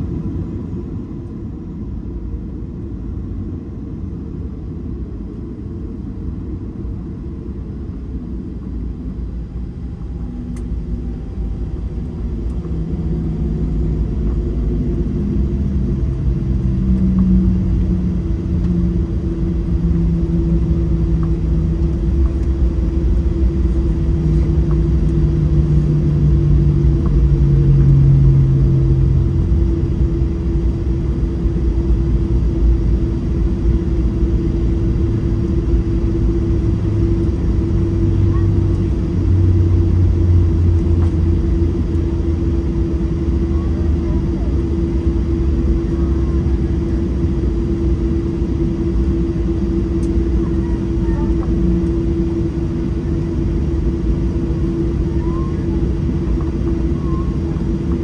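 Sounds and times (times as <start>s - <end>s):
jet engines low rumble: 0.0s - 58.0s
low hums: 9.3s - 58.0s.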